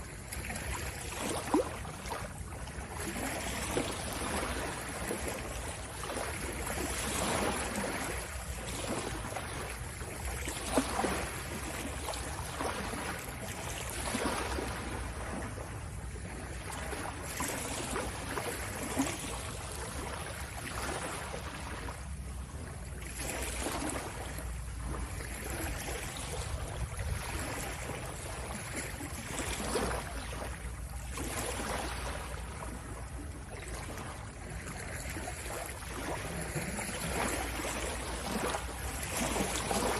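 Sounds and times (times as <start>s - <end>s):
water lapping in swells: 0.0s - 39.9s.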